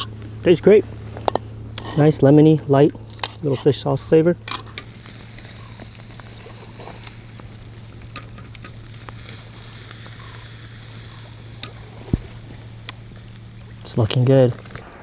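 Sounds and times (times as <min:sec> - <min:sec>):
fish sizzling on a grill: 0:00.0 - 0:14.9.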